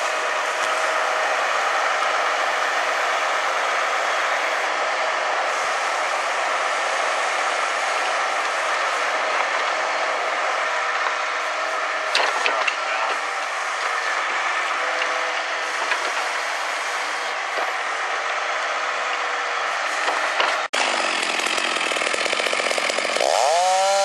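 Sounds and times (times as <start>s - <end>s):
truck engine and hydraulic loader: 0.0s - 24.0s.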